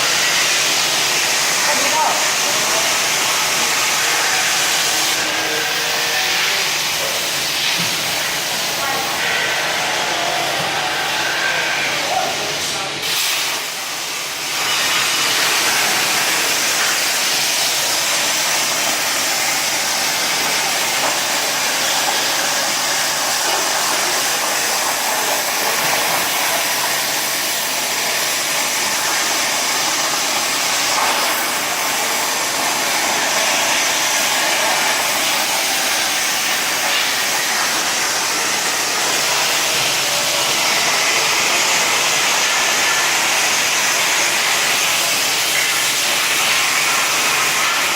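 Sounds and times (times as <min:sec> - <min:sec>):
plasma torch cutting metal: 0:00.0 - 0:47.9.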